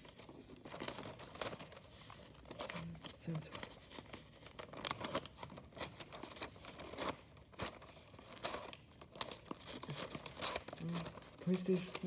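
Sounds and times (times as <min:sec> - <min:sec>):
paper crinkling: 0:00.0 - 0:12.0.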